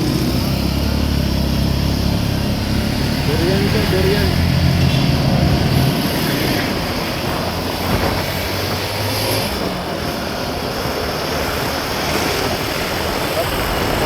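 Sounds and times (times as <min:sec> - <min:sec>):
road and wind noise: 0:00.0 - 0:14.0
vehicle engine hum: 0:00.0 - 0:14.0.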